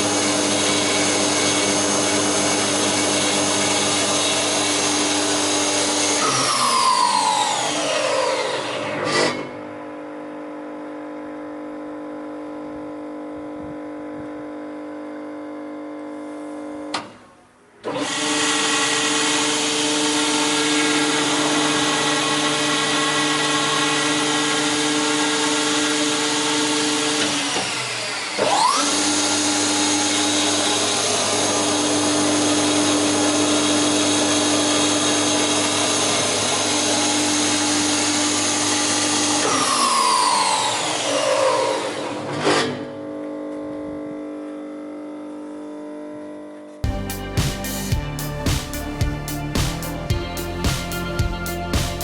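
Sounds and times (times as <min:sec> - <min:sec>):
spindle moulder motor whine: 0:00.0 - 0:17.0, 0:17.8 - 0:46.7.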